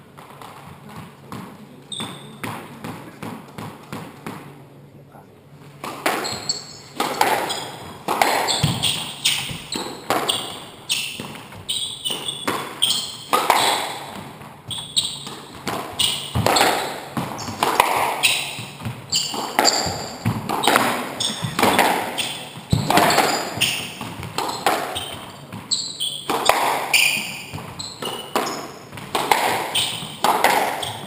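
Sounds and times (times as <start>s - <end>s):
squash ball cracks echoing: 5.8s - 31.0s.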